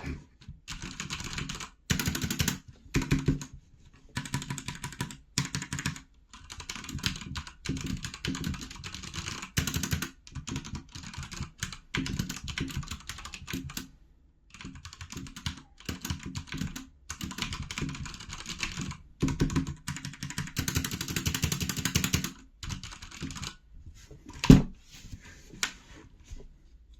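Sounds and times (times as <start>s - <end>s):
fast typing on mechanical keyboard: 0.7s - 3.5s, 4.1s - 13.9s, 14.5s - 23.6s.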